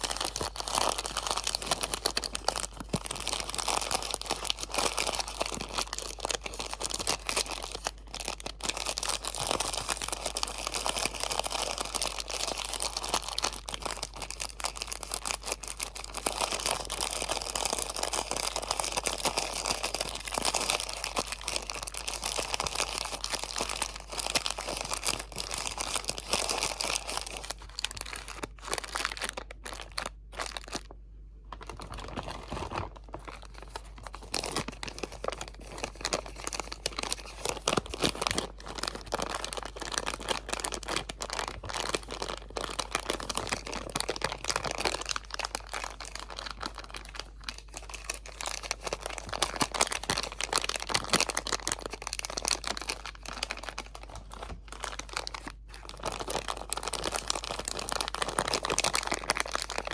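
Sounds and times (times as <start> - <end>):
crinkly material crumpling: 0.0 - 59.9.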